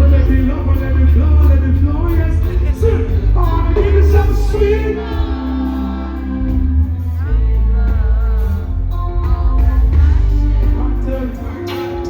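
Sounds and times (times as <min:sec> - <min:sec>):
person singing: 0:00.0 - 0:12.0
reggae music with heavy bass: 0:00.0 - 0:12.0.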